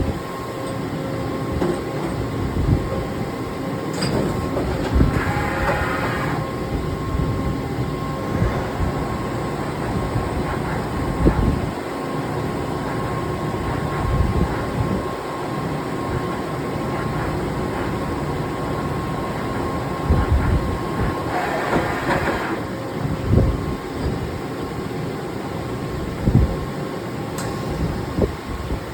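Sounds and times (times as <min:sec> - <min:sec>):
machine rumble with whine: 0:00.0 - 0:28.9.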